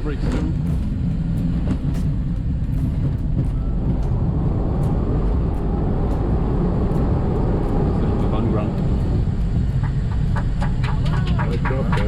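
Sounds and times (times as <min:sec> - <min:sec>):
jet rumbling on runway: 0:00.0 - 0:12.0
rushing air noise: 0:00.0 - 0:12.0.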